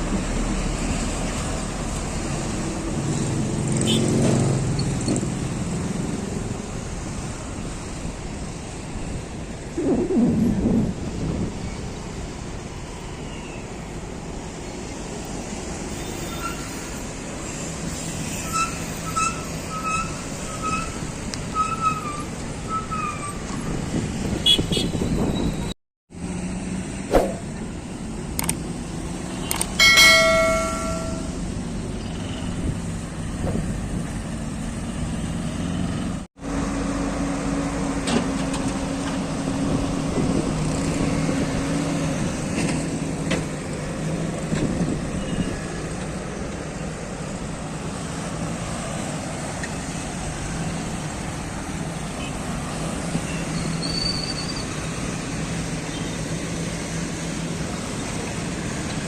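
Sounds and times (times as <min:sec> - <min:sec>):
road traffic din: 0:00.0 - 0:59.0.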